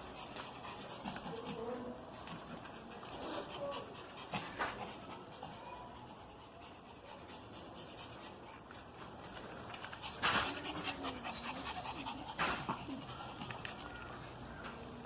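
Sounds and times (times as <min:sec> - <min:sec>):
dog panting: 0:00.0 - 0:14.4.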